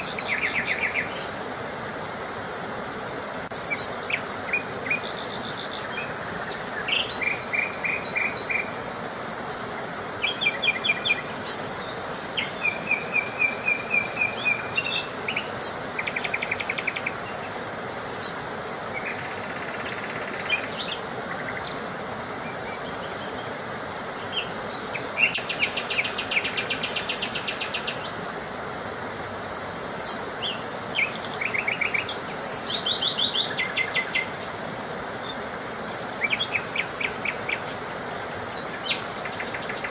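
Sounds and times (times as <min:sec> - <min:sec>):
songbirds trilling: 0:00.0 - 0:39.9
steady background hiss: 0:00.0 - 0:39.9.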